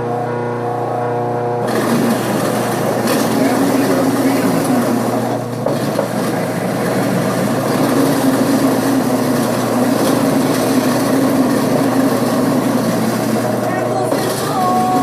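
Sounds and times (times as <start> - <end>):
apple grinder motor hum: 1.6 - 15.0
grinding: 1.6 - 15.0.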